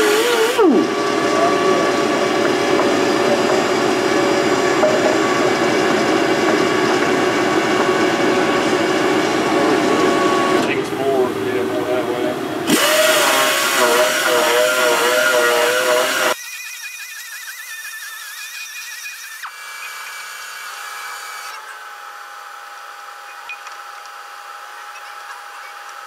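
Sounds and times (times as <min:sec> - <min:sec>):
grinder grinding steel: 0:00.0 - 0:10.8, 0:12.3 - 0:26.0.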